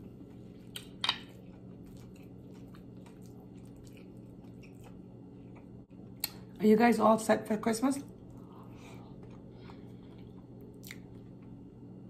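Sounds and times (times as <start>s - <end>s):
person chewing food: 0.0s - 6.6s, 8.1s - 11.7s
low steady hum: 0.0s - 12.0s.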